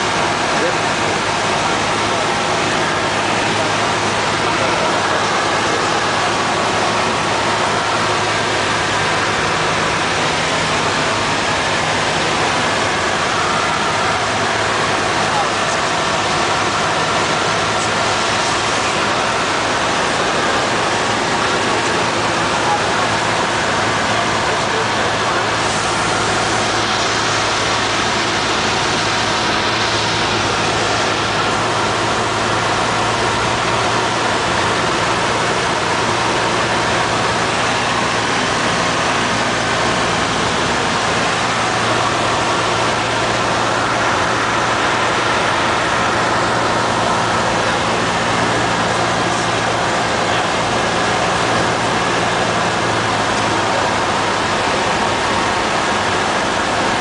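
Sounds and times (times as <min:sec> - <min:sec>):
airflow noise: 0:00.0 - 0:57.0
airplane engine droning in cabin: 0:00.0 - 0:57.0.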